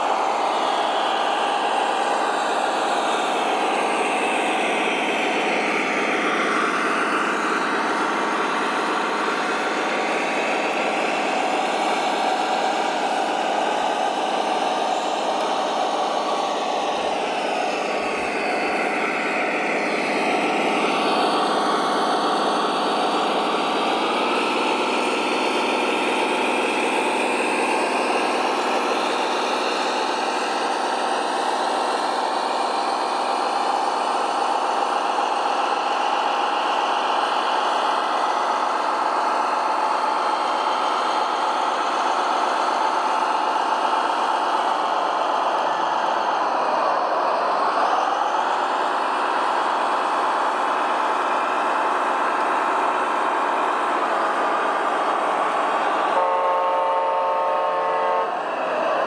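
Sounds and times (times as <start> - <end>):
model engine drone: 0.0 - 59.0.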